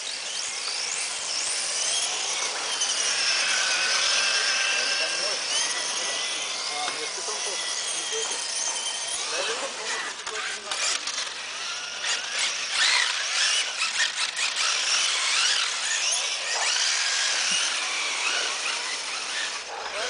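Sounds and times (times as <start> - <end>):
rc truck motors whining: 0.0 - 20.0.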